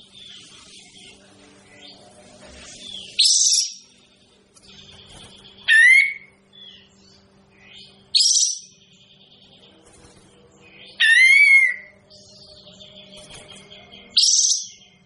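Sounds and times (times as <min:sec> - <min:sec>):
faint steady hum: 0:00.0 - 0:15.0
harsh buzzy bird calls: 0:00.0 - 0:15.0.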